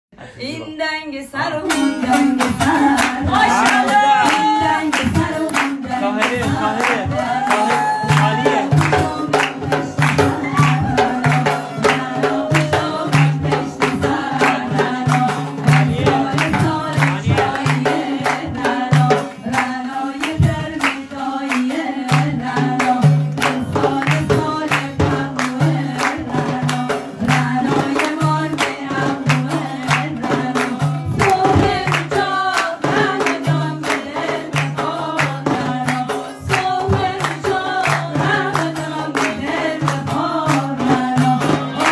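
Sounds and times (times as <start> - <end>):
group of voices singing: 0.2 - 41.9
fast drum beat: 1.7 - 41.9.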